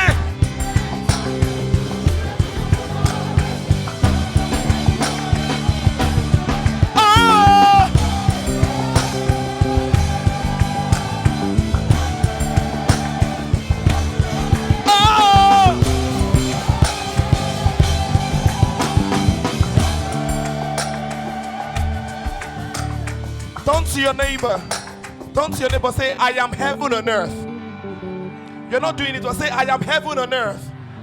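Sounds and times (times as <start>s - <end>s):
drum kit beat: 0.0s - 26.8s
gospel band music: 0.0s - 31.0s.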